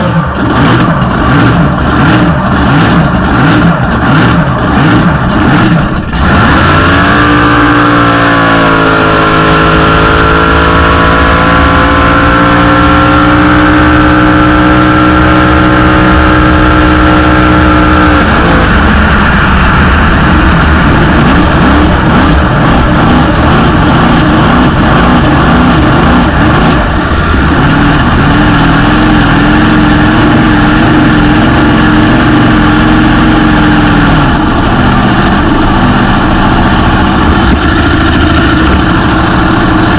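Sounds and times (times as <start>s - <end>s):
boat engine running loudly: 0.0s - 39.9s.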